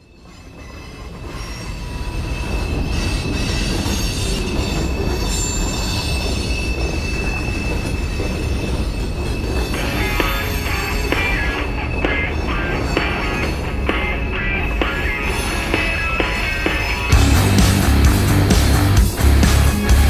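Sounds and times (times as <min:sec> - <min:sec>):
steel wheels squealing on rail: 0:00.0 - 0:17.3
freight train rumbling: 0:00.0 - 0:20.0.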